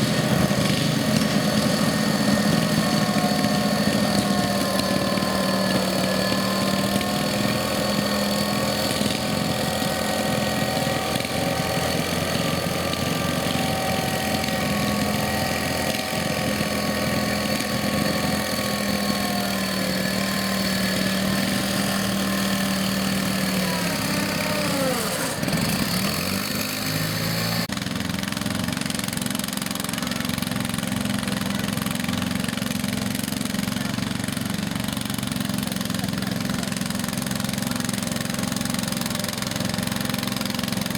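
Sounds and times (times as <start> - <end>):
garden tractor engines running: 0.0 - 40.9.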